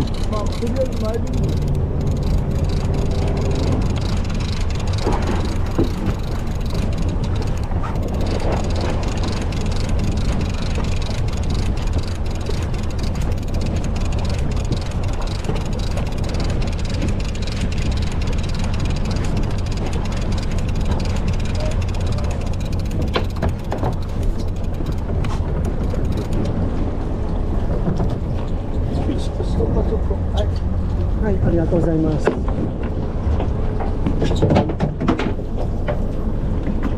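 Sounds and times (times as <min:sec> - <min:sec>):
boat engine idling: 0:00.0 - 0:31.9
choppy sea: 0:00.0 - 0:36.9
wind: 0:00.0 - 0:36.9.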